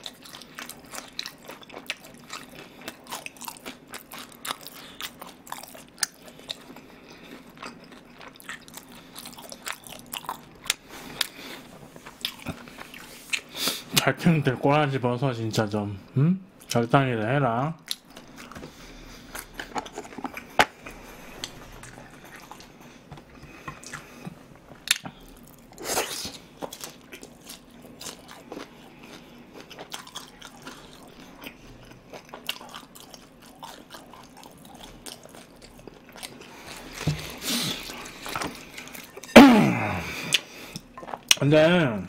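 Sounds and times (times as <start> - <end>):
chewing noodles: 0.0 - 13.6, 17.9 - 39.4.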